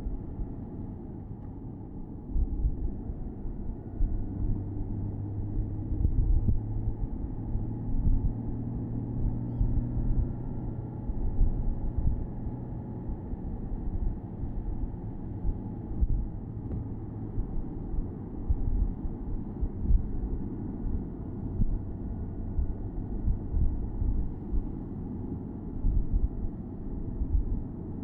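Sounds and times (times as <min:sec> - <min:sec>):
road rumble: 0:00.0 - 0:28.0
car engine cruising: 0:02.8 - 0:28.0.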